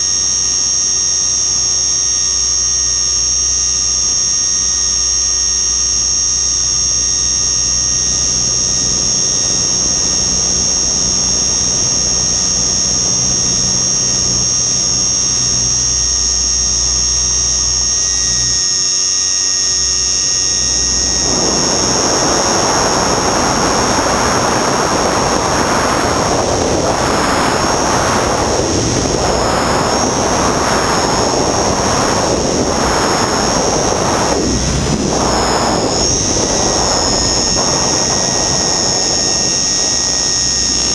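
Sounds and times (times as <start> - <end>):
rc helicopter motor whine: 0.0 - 40.9
wind noise on microphone: 0.0 - 40.9.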